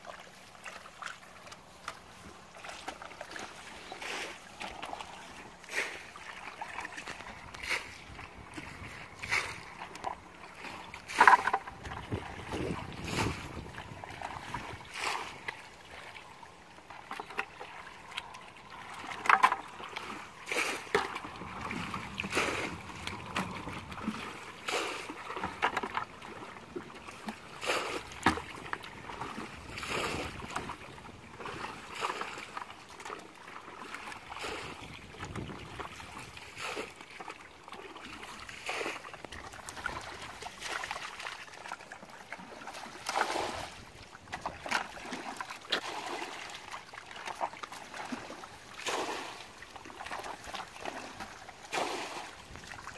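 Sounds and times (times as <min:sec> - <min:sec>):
hands splashing in muddy water: 0:00.0 - 0:16.1, 0:17.2 - 0:26.4, 0:27.1 - 0:52.9.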